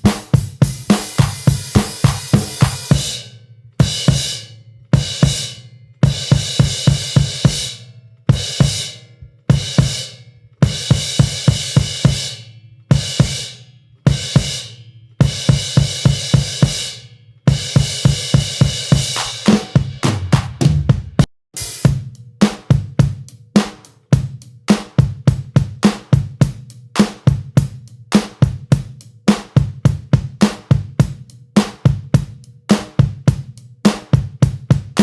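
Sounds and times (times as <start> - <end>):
music with drum beat: 0.0 - 35.0.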